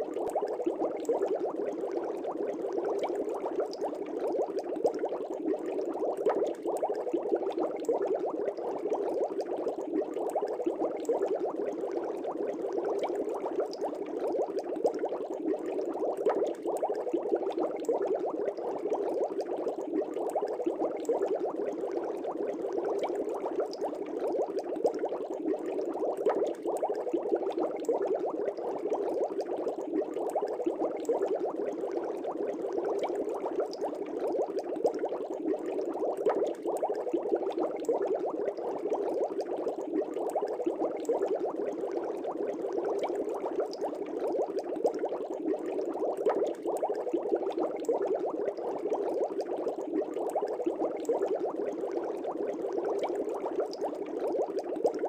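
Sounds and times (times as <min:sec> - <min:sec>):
aquarium air bubbles: 0:00.0 - 0:55.0.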